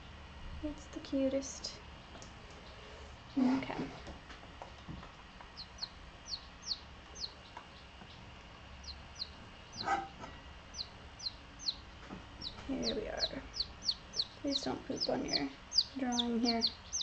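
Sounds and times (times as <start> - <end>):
baby chick peeping: 1.3 - 17.0.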